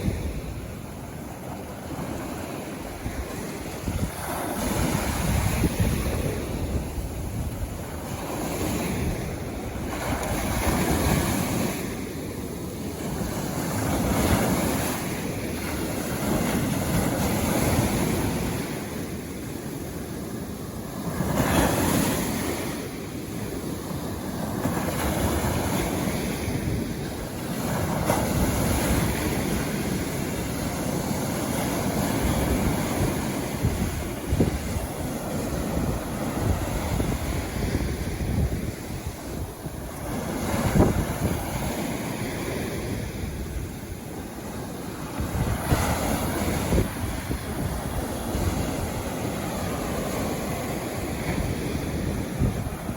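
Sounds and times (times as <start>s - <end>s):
sea waves breaking on beach: 0.0s - 52.9s
wind rumbling on microphone: 0.0s - 52.9s.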